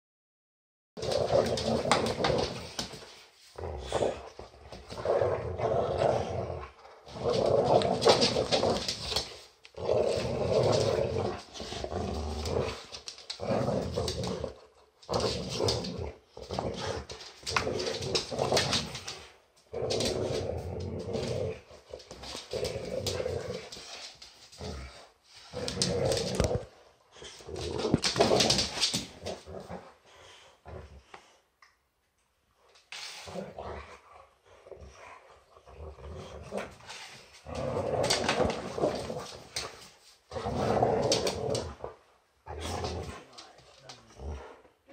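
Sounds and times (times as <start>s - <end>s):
dogs play-growling: 1.0s - 31.4s, 32.7s - 44.9s.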